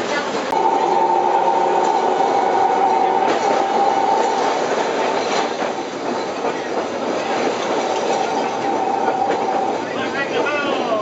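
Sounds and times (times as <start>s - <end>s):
tram rumbling rattle: 0.0s - 11.0s.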